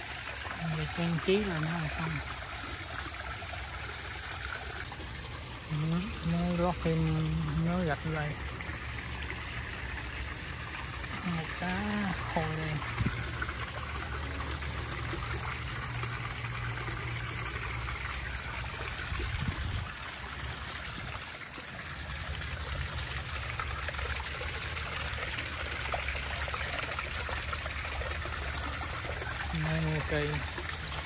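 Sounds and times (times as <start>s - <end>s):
water splashing into pond: 0.0s - 31.0s
water trickling down stones: 0.0s - 31.0s.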